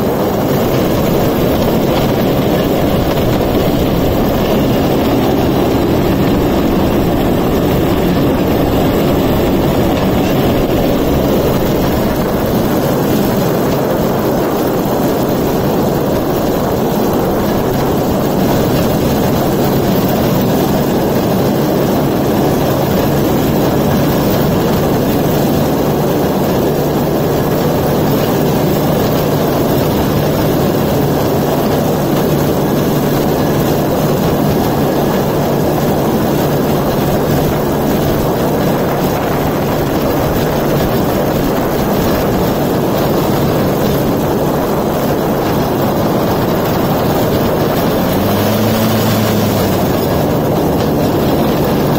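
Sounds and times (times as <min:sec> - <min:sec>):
rail cart rolling on rails: 0:00.0 - 0:51.9
two-stroke engine running: 0:00.0 - 0:51.9.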